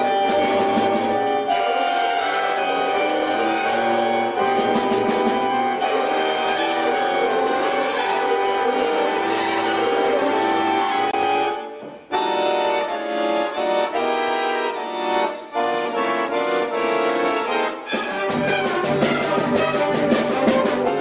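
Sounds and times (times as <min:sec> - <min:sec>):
accordion playing chords: 0:00.0 - 0:21.0
chamber orchestra: 0:00.0 - 0:21.0.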